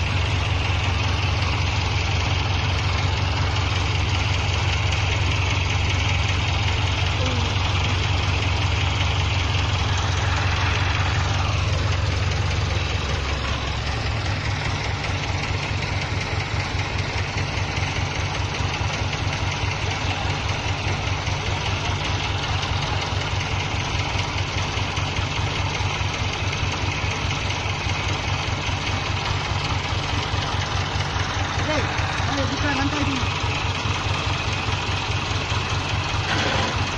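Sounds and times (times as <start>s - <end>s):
tractor diesel engine chugging: 0.0s - 36.9s.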